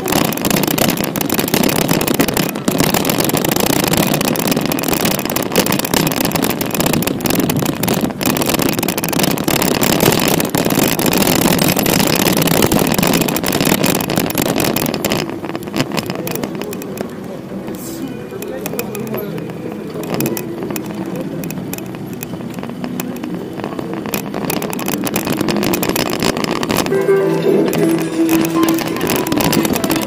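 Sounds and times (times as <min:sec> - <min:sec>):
small knocks and clicks: 0:00.0 - 0:27.0, 0:27.6 - 0:30.0
bicycle rumble and rattle: 0:00.0 - 0:30.0
wind noise: 0:00.0 - 0:30.0.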